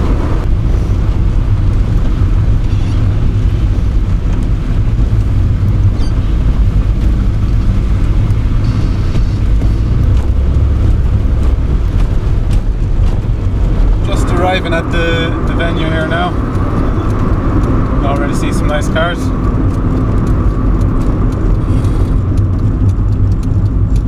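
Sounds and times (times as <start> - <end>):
car engine rumble: 0.0 - 24.0
tyres on wet slush: 0.0 - 24.0.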